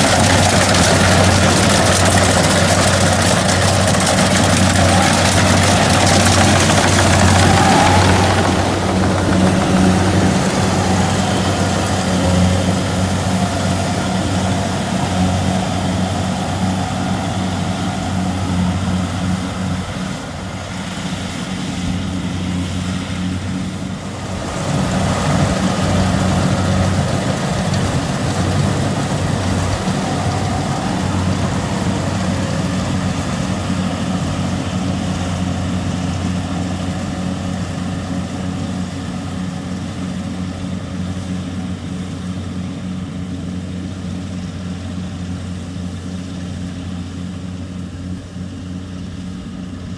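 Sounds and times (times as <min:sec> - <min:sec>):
combine harvester diesel engine droning: 0:00.0 - 0:49.9.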